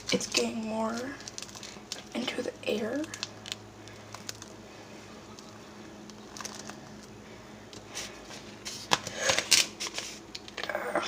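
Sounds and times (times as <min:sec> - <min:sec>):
sticky candy squishes: 0:00.0 - 0:11.0.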